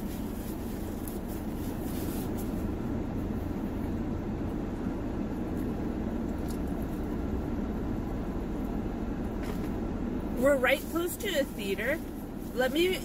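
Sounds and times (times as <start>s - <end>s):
air-conditioning blower: 0.0s - 13.0s
car engine idling: 0.0s - 13.0s.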